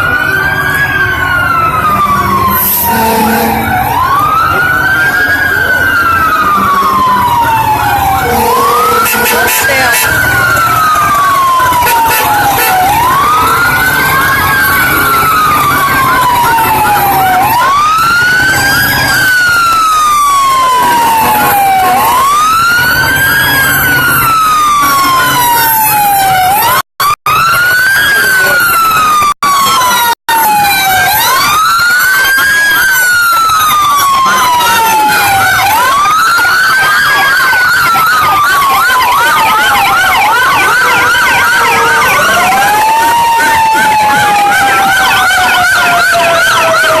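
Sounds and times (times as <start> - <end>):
fire truck siren wailing: 0.0 - 47.0.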